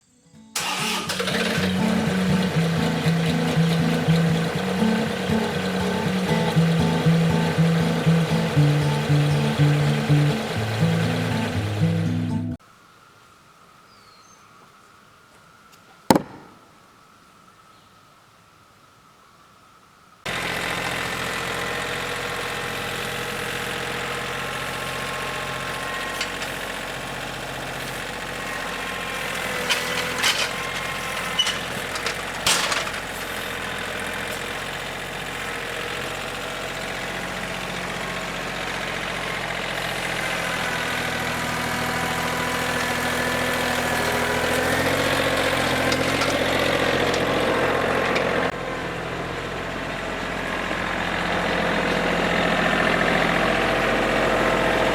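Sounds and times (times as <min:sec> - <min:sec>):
engine running steadily: 0:00.6 - 0:12.6, 0:20.3 - 0:54.9.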